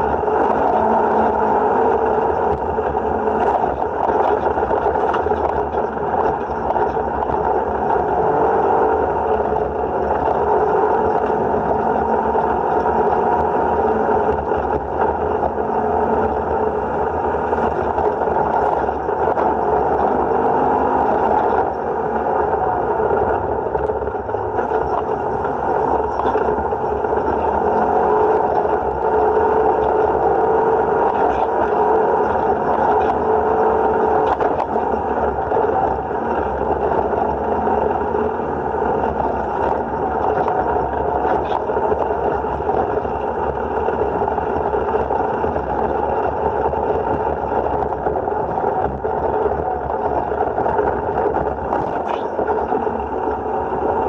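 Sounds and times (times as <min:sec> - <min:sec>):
tyre and wind noise: 0:00.0 - 0:54.0
vehicle engine drone: 0:00.0 - 0:54.0.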